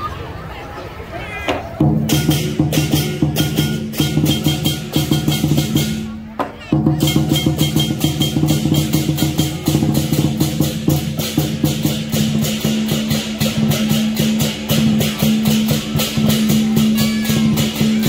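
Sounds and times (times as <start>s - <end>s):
fast percussive beat: 1.8s - 18.0s.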